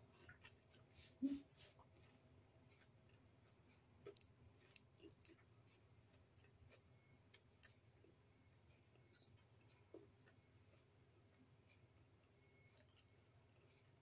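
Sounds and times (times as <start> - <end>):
chewing: 1.8 - 14.0.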